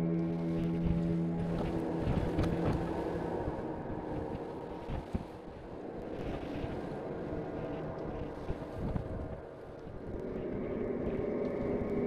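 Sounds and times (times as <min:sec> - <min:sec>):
gusty wind buffeting microphone: 0:00.0 - 0:12.0
wind rushing through trees: 0:00.0 - 0:12.0.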